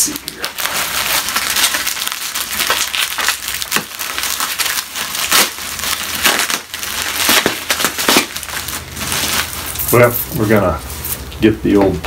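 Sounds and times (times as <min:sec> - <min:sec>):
bubble wrap crinkling: 0:00.0 - 0:11.4.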